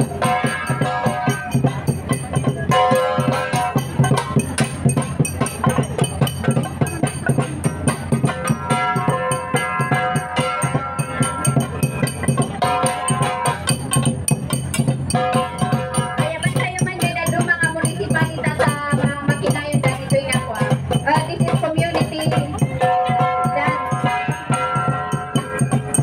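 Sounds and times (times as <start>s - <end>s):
flat gongs beaten with sticks: 0.0s - 26.0s.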